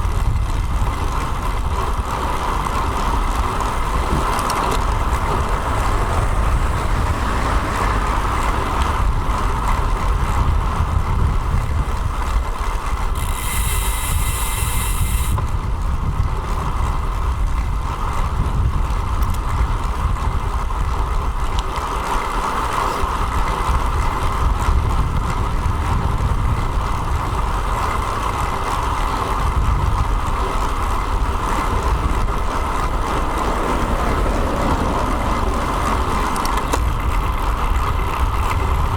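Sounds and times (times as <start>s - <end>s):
road and tyre hum: 0.0s - 38.9s
wind buffeting microphone: 0.0s - 38.9s.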